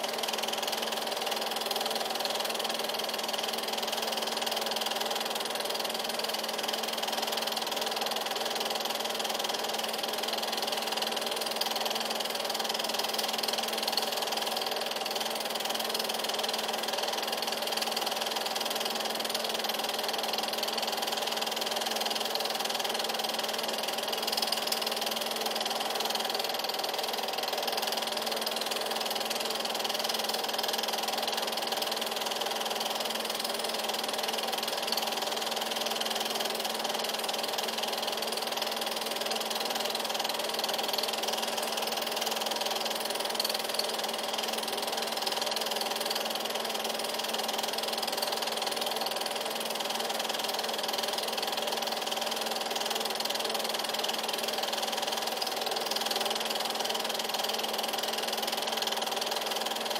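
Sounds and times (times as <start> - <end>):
film projector whirring: 0.0 - 59.9.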